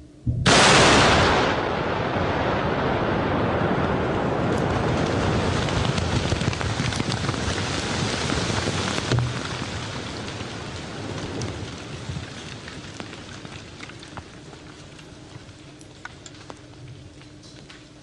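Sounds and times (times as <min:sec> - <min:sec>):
low rumble of blast: 0:00.2 - 0:17.4
debris falling: 0:00.5 - 0:18.0.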